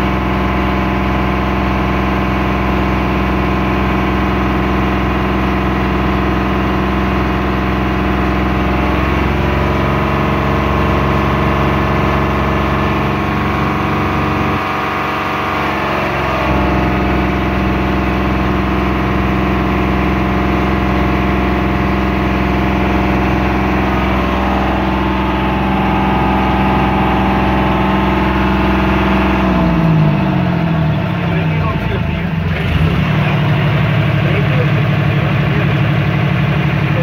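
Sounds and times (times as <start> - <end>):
motor boat engine humming: 0.0 - 37.0.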